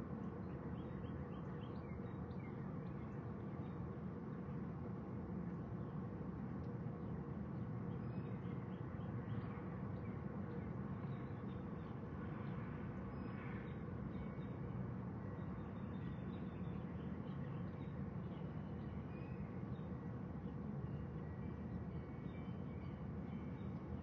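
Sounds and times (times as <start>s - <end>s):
low outdoor background noise: 0.0s - 24.0s.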